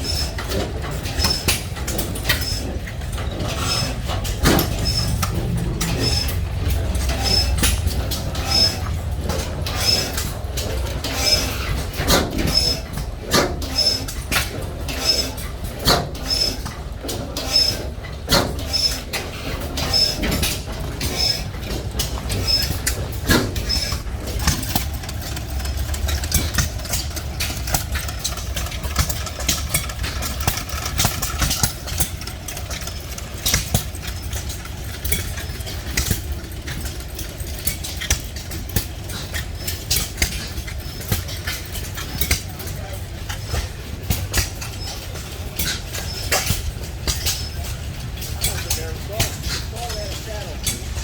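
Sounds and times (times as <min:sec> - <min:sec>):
stationary gas engines running: 0:00.0 - 0:51.0.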